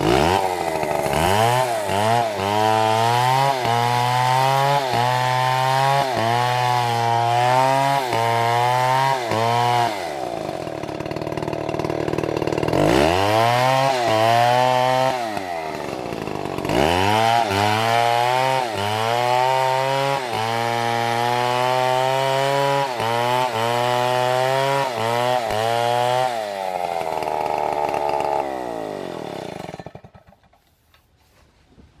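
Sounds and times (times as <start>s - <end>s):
chainsaw cutting wood: 0.0s - 30.8s.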